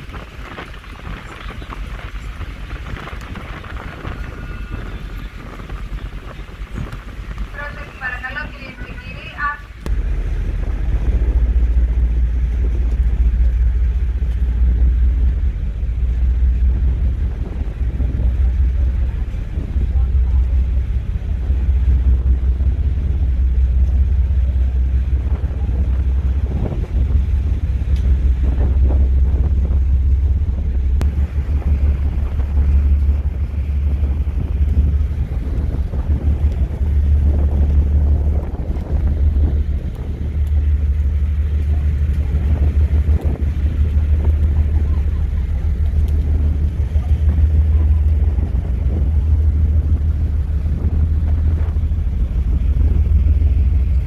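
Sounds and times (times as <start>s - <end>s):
churning wake: 0.0s - 54.0s
ferry engines rumbling: 0.0s - 54.0s
wind buffeting microphone: 0.0s - 54.0s.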